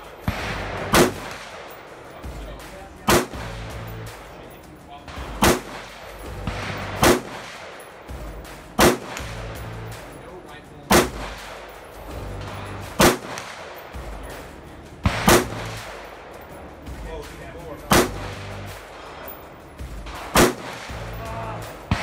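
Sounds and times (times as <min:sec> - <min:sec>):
rifle shots: 0:00.0 - 0:04.4, 0:05.1 - 0:10.2, 0:10.9 - 0:16.8, 0:17.9 - 0:22.0.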